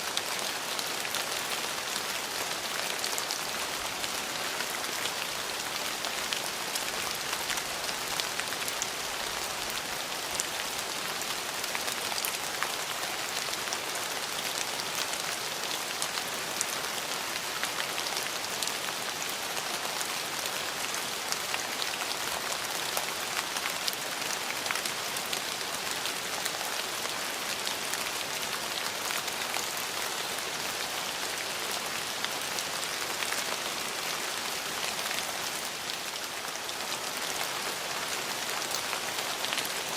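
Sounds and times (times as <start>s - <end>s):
rain falling: 0.0s - 39.9s
raindrops pattering: 0.0s - 39.9s.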